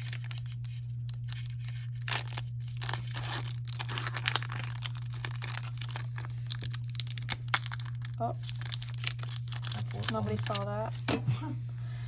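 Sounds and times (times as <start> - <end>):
foil wrapper crinkling and tearing: 0.0 - 11.0
low electrical hum: 0.0 - 12.0.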